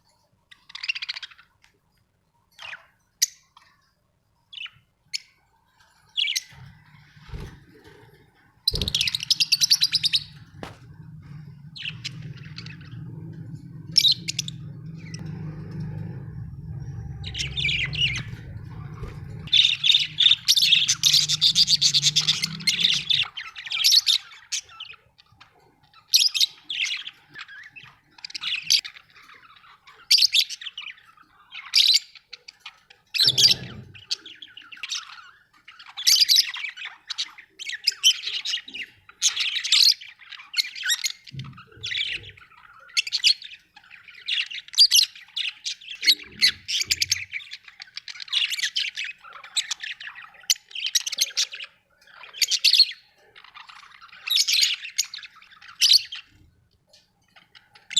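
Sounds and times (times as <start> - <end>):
budgerigars chirping and squawking: 0.5 - 1.8, 2.5 - 3.9, 4.5 - 57.9.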